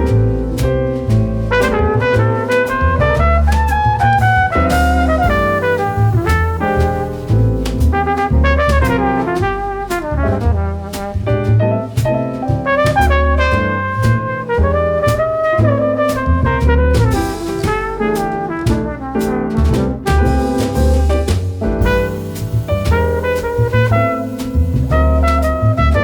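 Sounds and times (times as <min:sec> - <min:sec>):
jazz brass melody: 0:00.0 - 0:26.0
steady drum beat: 0:00.0 - 0:26.0.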